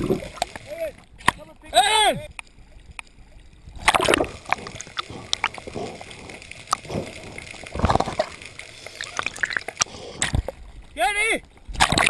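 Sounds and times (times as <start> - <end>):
water sloshing and splashing: 0.0 - 1.4, 2.4 - 12.0.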